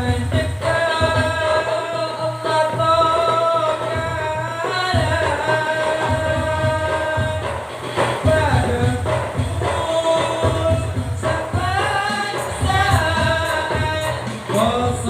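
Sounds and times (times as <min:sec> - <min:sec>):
hand drum percussion: 0:00.0 - 0:15.0.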